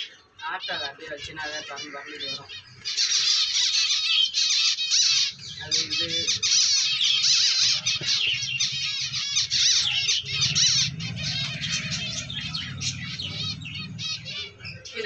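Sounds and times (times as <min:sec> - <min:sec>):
small birds chattering: 0:00.0 - 0:15.0.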